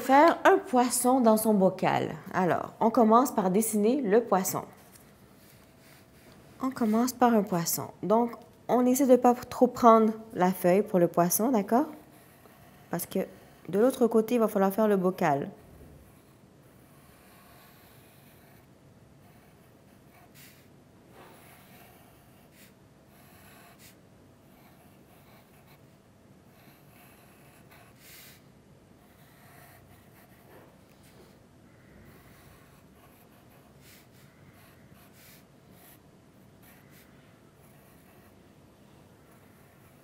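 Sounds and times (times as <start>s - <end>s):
pencil scratching on paper: 4.3s - 7.6s, 9.1s - 28.4s, 29.0s - 31.4s, 32.0s - 38.5s, 39.2s - 40.0s.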